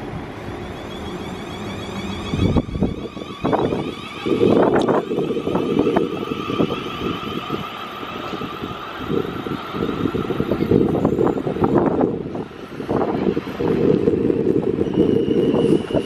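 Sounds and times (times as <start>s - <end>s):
electric train motor whine: 0.0s - 16.0s
wind buffeting microphone: 1.4s - 16.0s.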